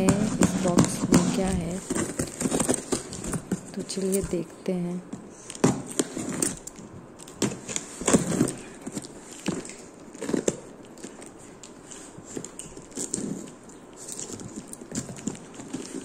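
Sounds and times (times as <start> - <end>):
hands handling cardboard box: 0.0 - 4.4, 5.2 - 16.0.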